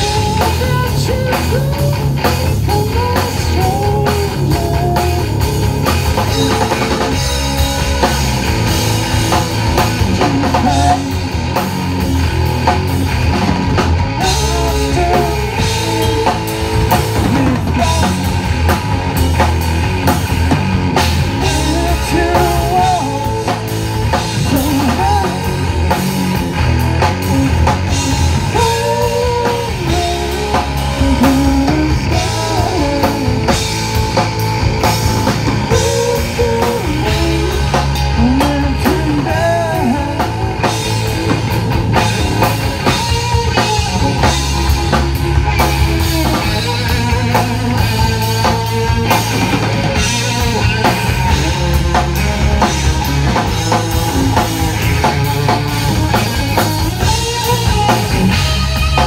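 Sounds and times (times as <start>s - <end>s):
bass guitar: 0.0s - 59.0s
distorted electric guitar: 0.0s - 59.0s
driving drum kit: 0.0s - 59.0s.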